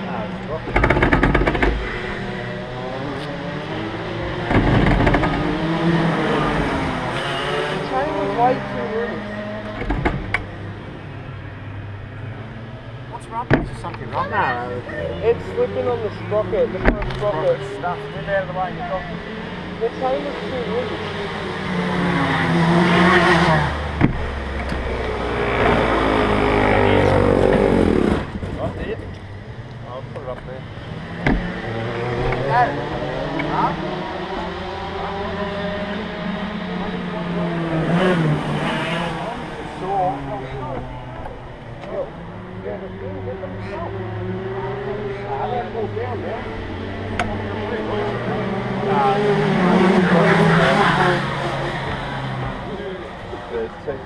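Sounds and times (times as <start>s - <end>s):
kart engine running: 0.0s - 12.8s, 13.6s - 54.0s.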